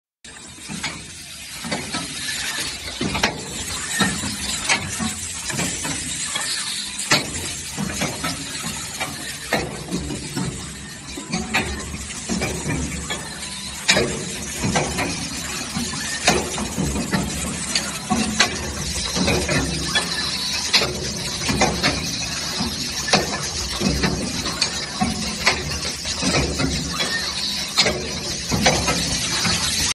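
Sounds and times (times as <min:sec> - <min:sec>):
assembly machine running: 0:00.3 - 0:29.9
pneumatic grippers clicking: 0:00.3 - 0:29.9.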